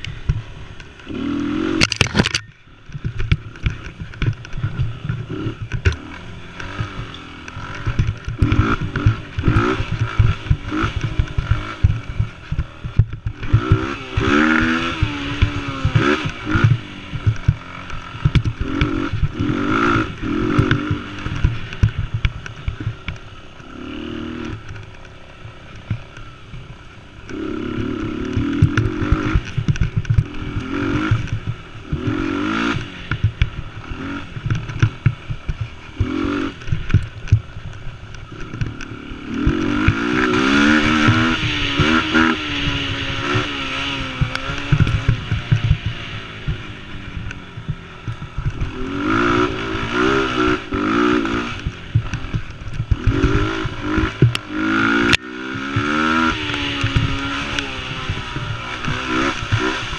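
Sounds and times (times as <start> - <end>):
small quad engine revving: 0.0 - 59.9.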